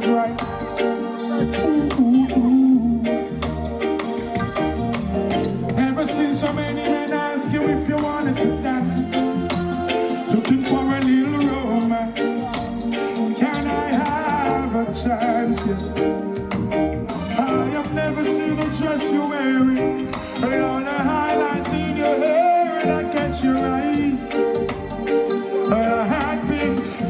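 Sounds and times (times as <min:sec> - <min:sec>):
live reggae band music: 0:00.0 - 0:27.0
person singing: 0:00.0 - 0:27.0.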